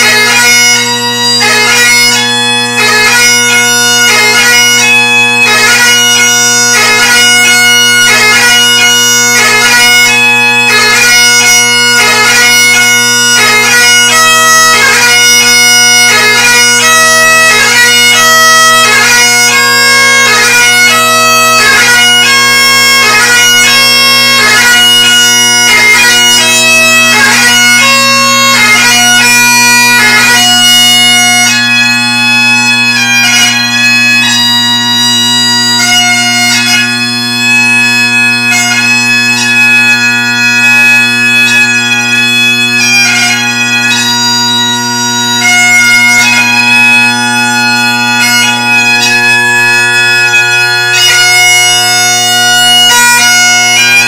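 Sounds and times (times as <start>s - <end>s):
bagpipe chanter melody: 0.0s - 54.0s
bagpipe drones: 0.0s - 54.0s.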